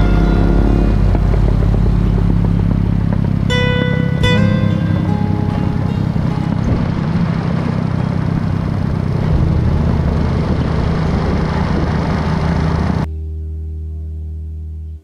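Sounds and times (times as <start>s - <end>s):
moped engine running: 0.0s - 13.1s
road and wind noise: 0.0s - 13.1s
steady low hum: 0.0s - 15.0s.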